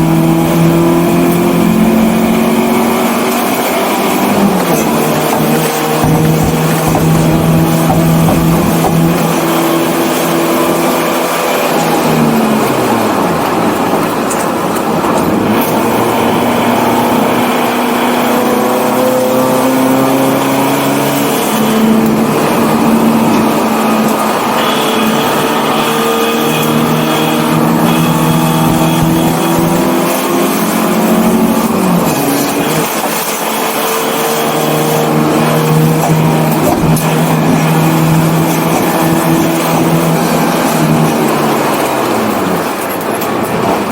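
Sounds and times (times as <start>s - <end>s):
car engine revving: 0.0s - 43.9s
road and wind noise: 0.0s - 43.9s.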